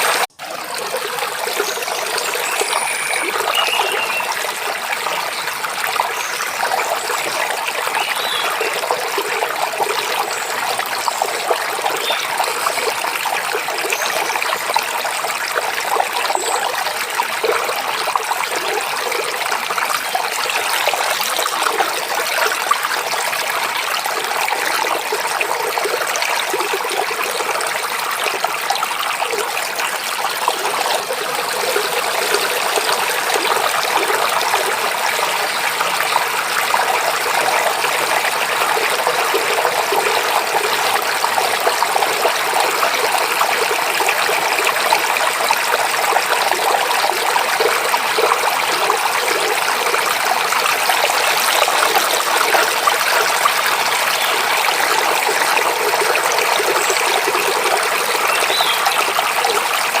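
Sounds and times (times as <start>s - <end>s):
stream running over rocks: 0.0s - 60.0s.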